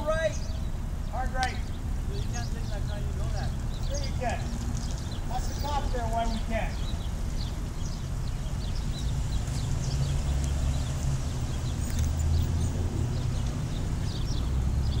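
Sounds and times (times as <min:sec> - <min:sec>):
small birds chirping: 0:00.0 - 0:15.0
truck engine rumbling: 0:00.0 - 0:15.0.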